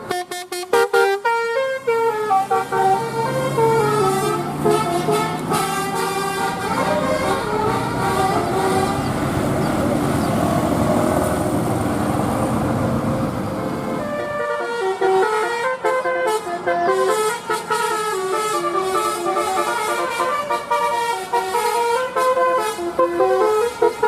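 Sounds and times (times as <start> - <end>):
musical bus horn tune: 0.0 - 9.5, 13.4 - 24.0
bus engine passing: 0.0 - 24.0.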